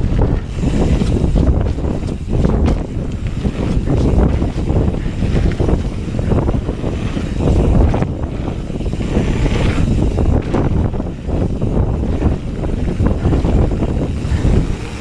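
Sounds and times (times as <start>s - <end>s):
mountain bike rumble and rattle: 0.0s - 15.0s
wind buffeting microphone: 0.0s - 15.0s.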